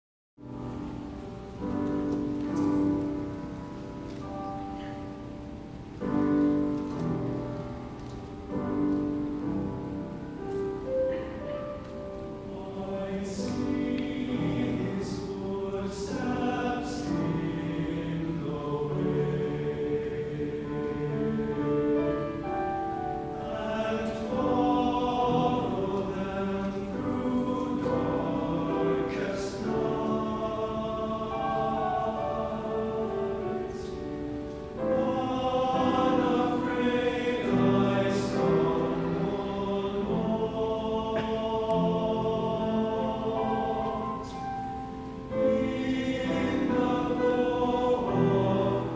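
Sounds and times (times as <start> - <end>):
mixed choir singing: 0.5 - 48.9.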